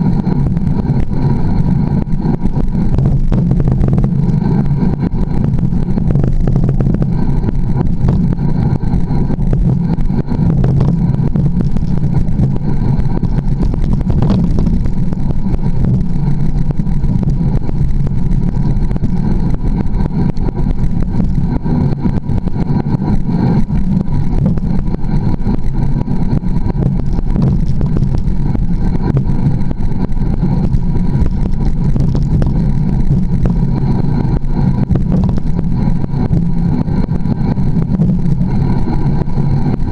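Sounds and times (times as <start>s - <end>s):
bike tyres rumbling and rattling: 0.0s - 39.9s.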